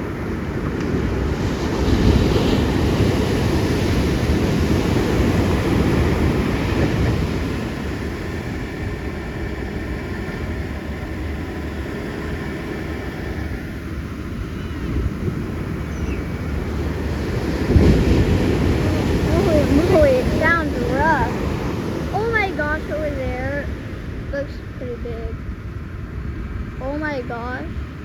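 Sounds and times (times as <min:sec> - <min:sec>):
ocean surf breaking: 0:00.0 - 0:28.0
wind rumbling on microphone: 0:00.0 - 0:28.0.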